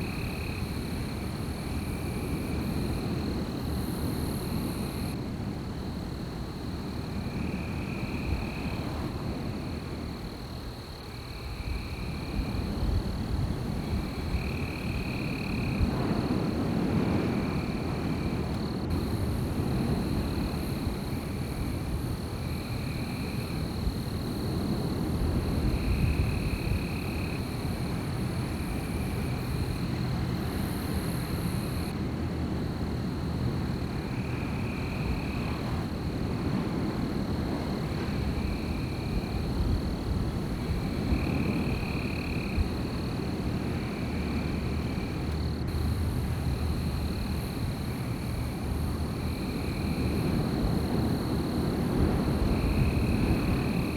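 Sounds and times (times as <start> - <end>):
high insect drone: 0.0 - 53.9
wind blowing through trees: 0.0 - 53.9.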